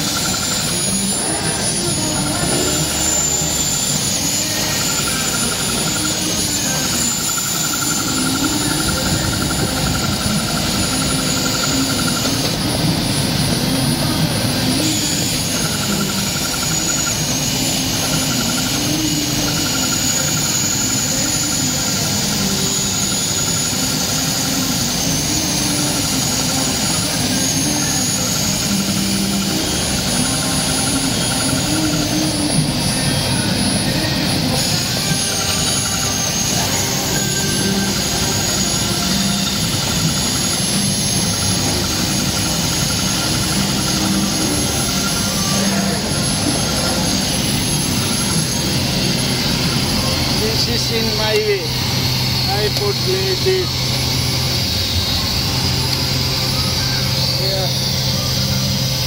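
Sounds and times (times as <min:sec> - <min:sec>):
cutting machine droning: 0:00.0 - 0:59.0
machine tones stepping up and down: 0:00.0 - 0:59.0.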